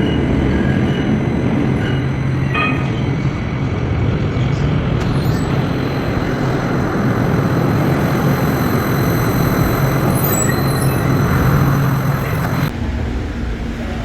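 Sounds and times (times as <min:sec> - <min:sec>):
train running with steady rumble: 0:00.0 - 0:14.0.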